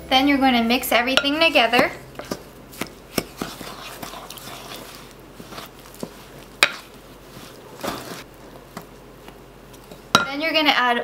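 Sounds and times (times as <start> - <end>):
spoon stirring thick dough: 0.8 - 10.4.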